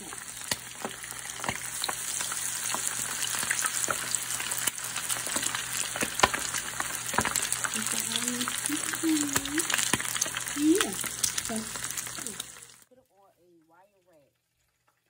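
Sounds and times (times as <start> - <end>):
chicken wings deep-frying in oil: 0.0 - 15.0.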